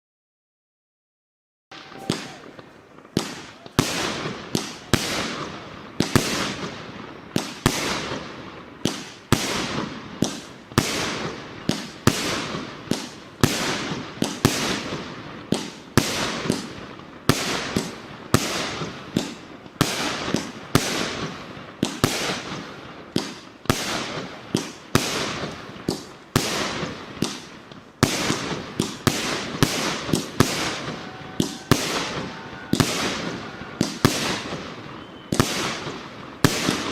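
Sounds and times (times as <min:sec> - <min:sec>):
fireworks bangs with echo: 0:01.7 - 0:36.9.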